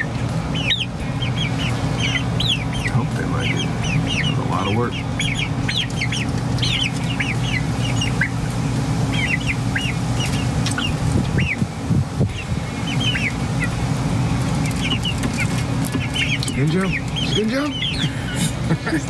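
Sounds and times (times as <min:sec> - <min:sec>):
chicks cheeping: 0:00.0 - 0:19.0
steady low hum: 0:00.0 - 0:19.0.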